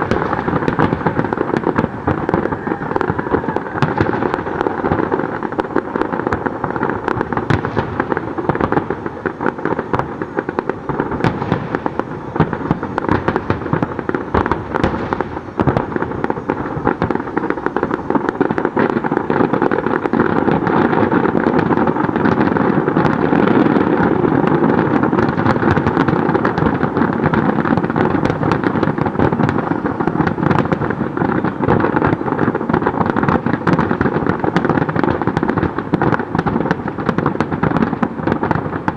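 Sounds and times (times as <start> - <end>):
fireworks bursts and crackle: 0.0 - 38.9.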